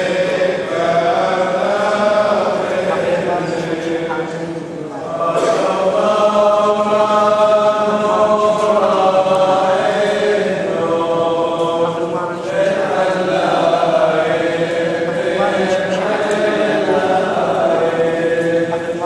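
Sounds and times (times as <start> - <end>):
voices singing chant: 0.0 - 19.0.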